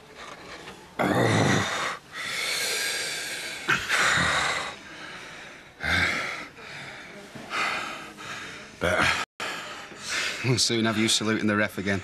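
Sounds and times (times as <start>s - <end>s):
heavy wheezy breathing: 0.0s - 10.6s.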